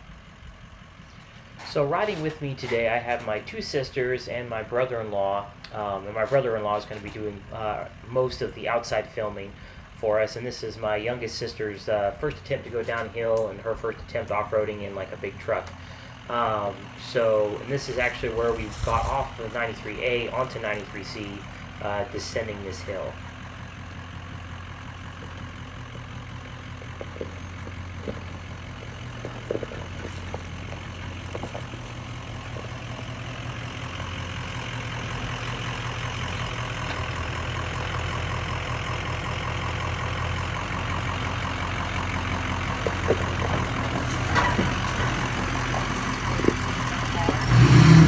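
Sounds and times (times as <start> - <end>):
diesel truck engine running: 0.0 - 48.0.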